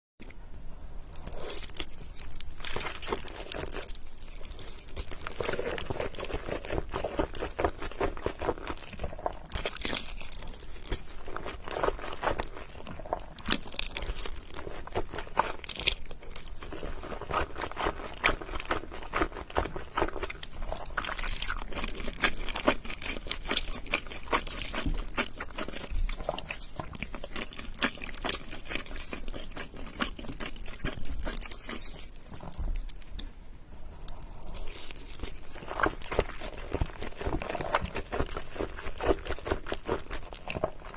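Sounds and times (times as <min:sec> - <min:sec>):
person chewing noodles: 0:01.0 - 0:33.3, 0:34.0 - 0:40.9.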